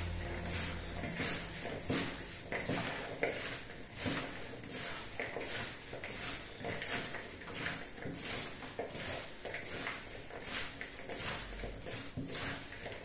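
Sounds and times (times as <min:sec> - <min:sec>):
vegetables rustling in a bowl: 0:00.0 - 0:13.0.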